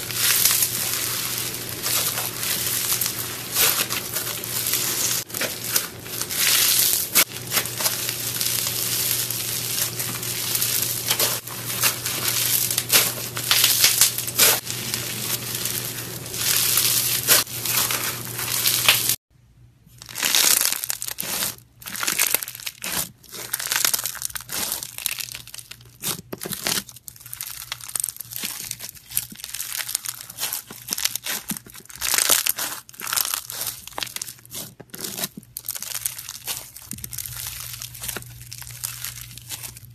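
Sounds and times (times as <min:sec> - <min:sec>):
slime crinkling crackle: 0:00.0 - 0:19.2, 0:20.0 - 0:39.9.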